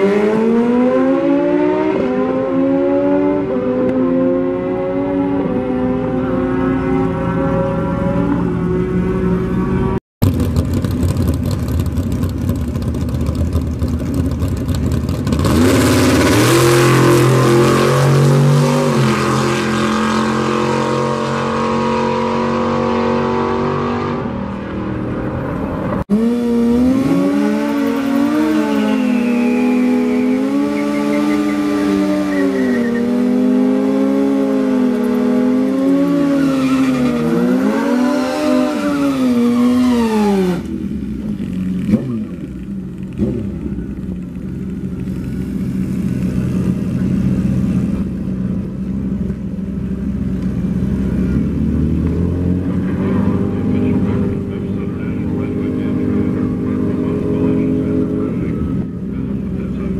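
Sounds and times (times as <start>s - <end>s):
motorcycle engine revving: 0.0s - 59.9s
truck engine revving through gears: 0.0s - 59.9s.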